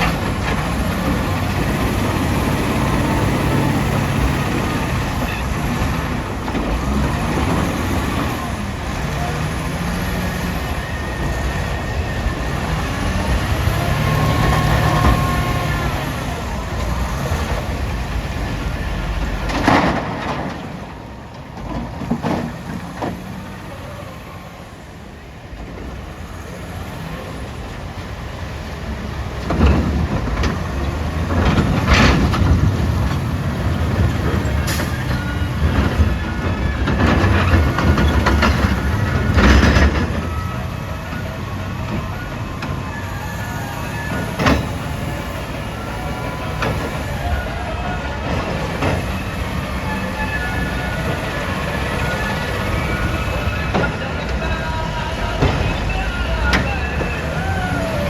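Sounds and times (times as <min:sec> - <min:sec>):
heavy diesel engine revving: 0:00.0 - 0:58.0.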